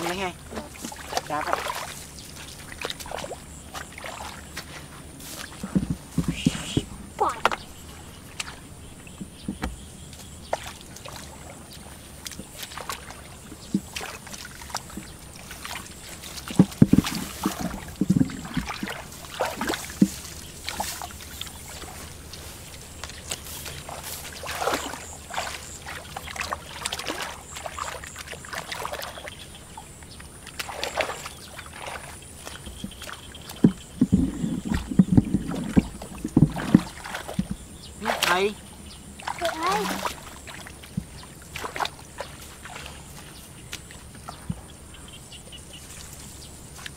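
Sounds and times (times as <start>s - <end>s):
mud squelching: 0.0s - 46.9s
hands splashing in muddy water: 0.6s - 38.6s, 39.2s - 44.6s.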